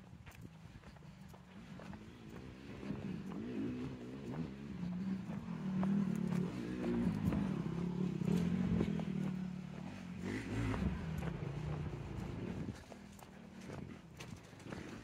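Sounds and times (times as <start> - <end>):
footsteps clicking: 0.0 - 15.0
motorcycle engines revving: 0.0 - 15.0.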